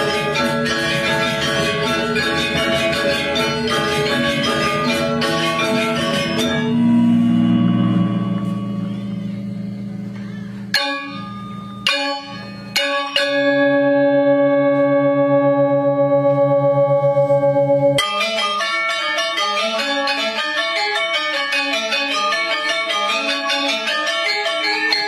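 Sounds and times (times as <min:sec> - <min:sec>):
gamelan playing: 0:00.0 - 0:25.0.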